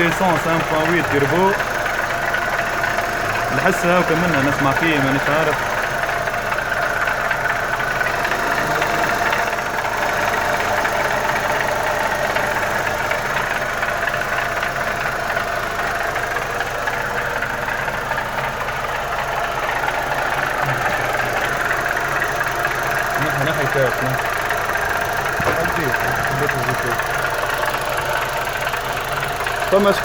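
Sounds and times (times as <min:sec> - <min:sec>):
car engine idling: 0:00.0 - 0:30.0
fast ticking inside engine: 0:00.0 - 0:30.0.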